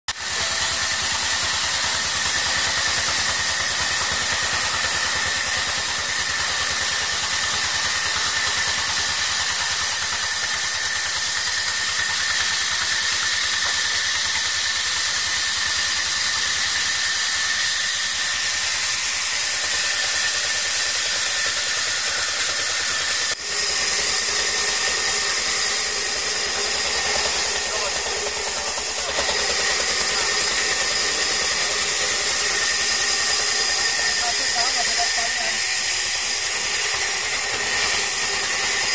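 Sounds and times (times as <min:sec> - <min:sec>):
band saw whining: 0:00.1 - 0:38.9.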